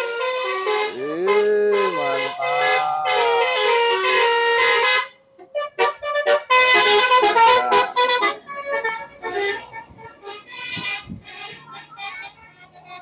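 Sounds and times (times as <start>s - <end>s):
bus musical horn playing a tune: 0.0s - 13.0s.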